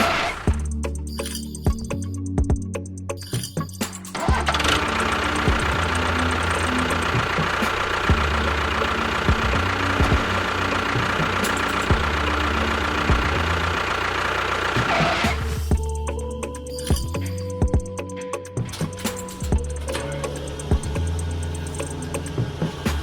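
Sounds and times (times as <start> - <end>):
small motor whining: 4.2 - 23.0.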